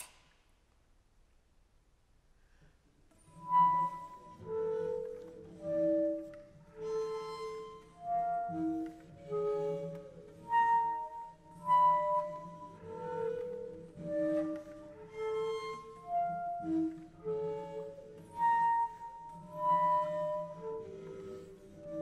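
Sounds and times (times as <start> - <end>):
flute playing slow held notes: 3.2 - 22.0.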